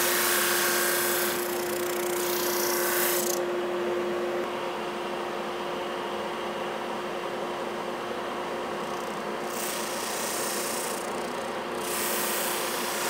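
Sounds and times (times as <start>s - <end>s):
drum sander motor hum: 0.0s - 13.0s.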